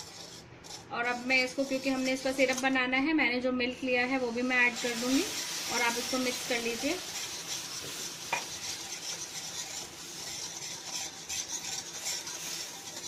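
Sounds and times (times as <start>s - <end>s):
wire whisk scraping metal pan: 0.0s - 2.9s, 4.7s - 13.0s.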